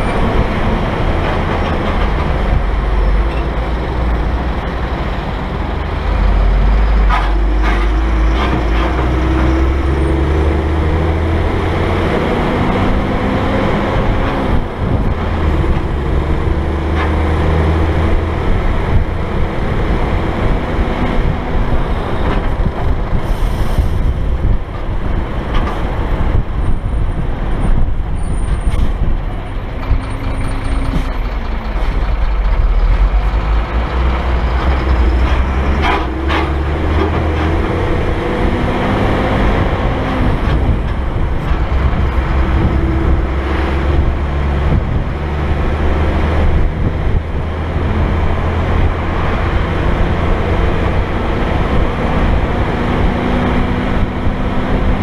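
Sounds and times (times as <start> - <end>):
diesel truck engine running: 0.0 - 55.0
road noise: 0.0 - 55.0
wind noise: 0.0 - 55.0.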